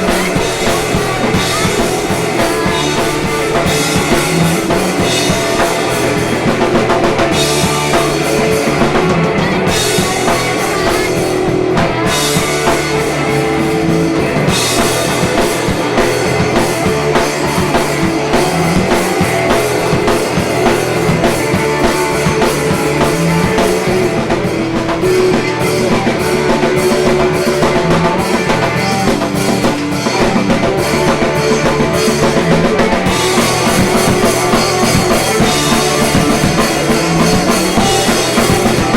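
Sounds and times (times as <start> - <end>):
bass line: 0.0 - 38.9
drum kit beat: 0.0 - 38.9
guitar: 0.0 - 38.9.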